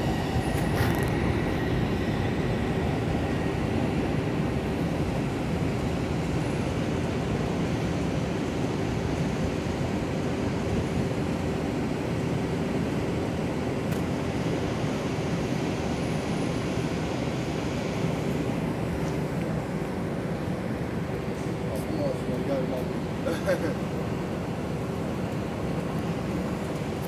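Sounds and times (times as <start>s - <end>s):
distant electric train rumble: 0.0s - 27.0s.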